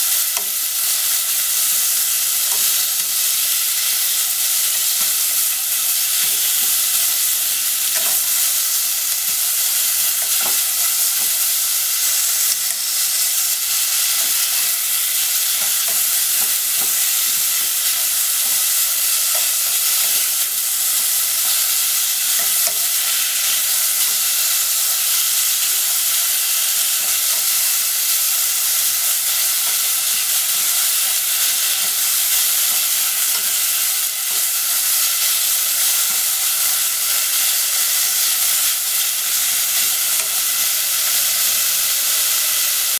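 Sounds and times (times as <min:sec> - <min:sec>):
meat sizzling in a pot: 0:00.0 - 0:42.9.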